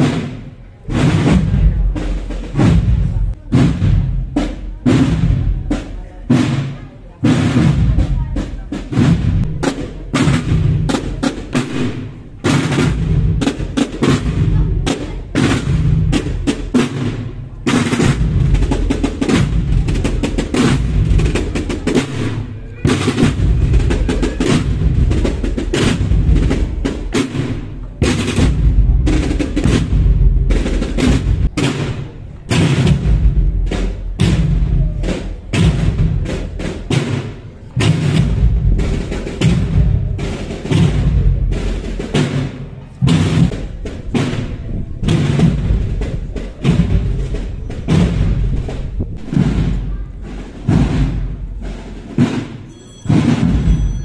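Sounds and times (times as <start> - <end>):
marching field drums: 0.0 - 54.0.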